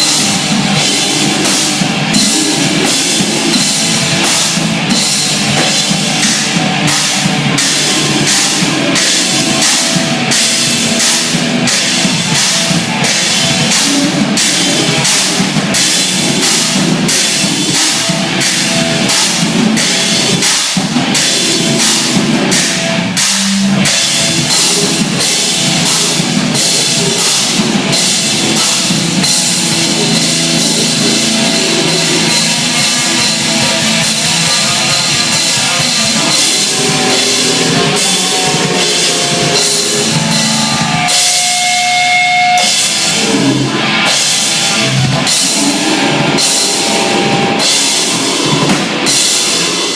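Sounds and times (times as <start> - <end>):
drum kit beat: 0.0 - 49.9
loud rock music: 0.0 - 49.9.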